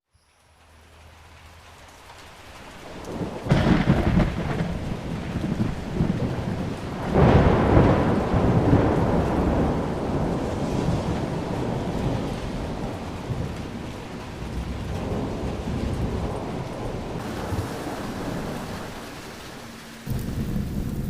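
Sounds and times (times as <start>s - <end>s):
steady rain: 0.0s - 21.0s
rumbling thunderclaps: 2.8s - 21.0s.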